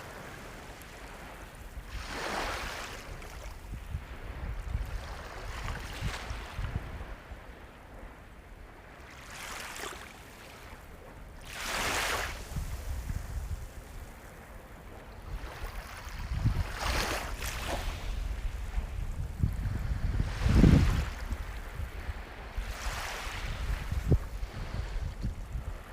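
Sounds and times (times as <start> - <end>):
low rumble of surf: 0.0 - 25.9
ocean waves breaking: 0.0 - 25.9.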